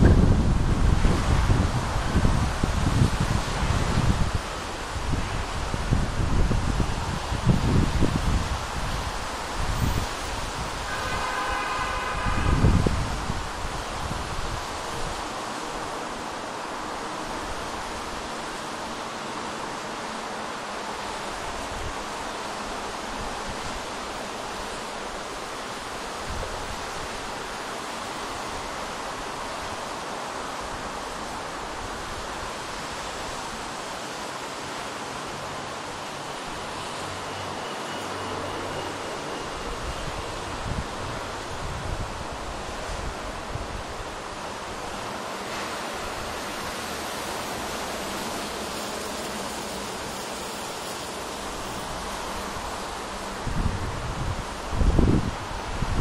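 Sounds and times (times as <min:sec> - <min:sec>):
city traffic noise: 0:00.0 - 0:56.0
wind: 0:00.0 - 0:56.0.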